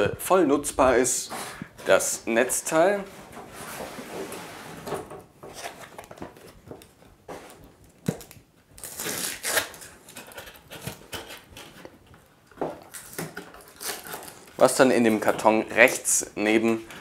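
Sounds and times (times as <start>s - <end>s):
cardboard rustling: 1.2s - 15.6s.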